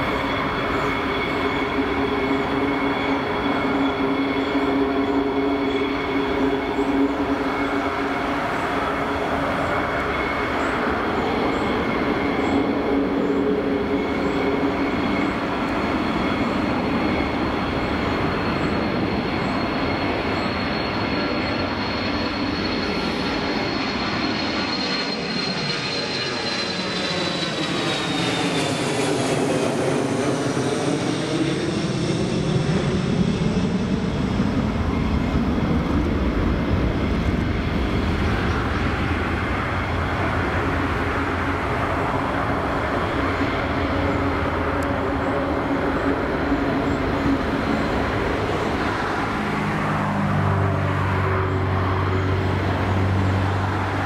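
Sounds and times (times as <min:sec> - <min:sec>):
jet engine rushing roar: 0:00.0 - 0:54.0
jet engines whining: 0:00.0 - 0:54.0.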